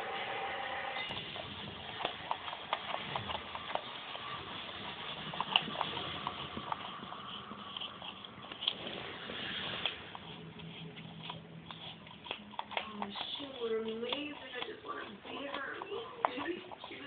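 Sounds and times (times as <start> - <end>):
dog licking plastic cup: 1.1 - 17.0.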